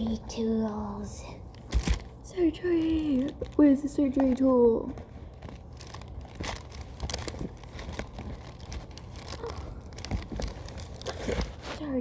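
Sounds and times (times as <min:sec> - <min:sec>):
small objects rustling and clicking: 0:01.5 - 0:12.0.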